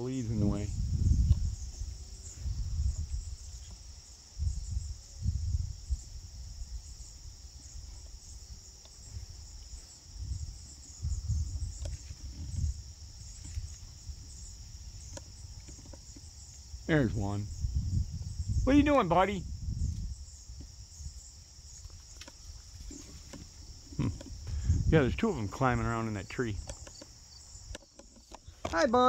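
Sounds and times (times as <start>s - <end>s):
high-pitched insect chorus: 0.0s - 29.0s
low rumbling bumps: 0.3s - 3.6s, 7.6s - 28.9s.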